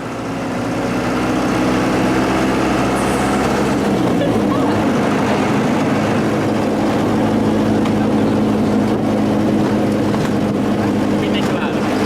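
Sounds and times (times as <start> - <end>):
engine droning steadily: 0.0 - 12.0.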